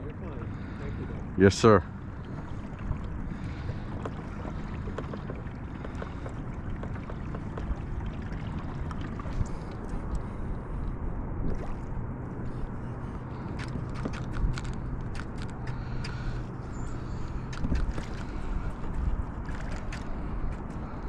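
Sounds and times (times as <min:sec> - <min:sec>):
steady low rumble: 0:00.0 - 0:21.0
water lapping against kayak hull: 0:00.0 - 0:21.0.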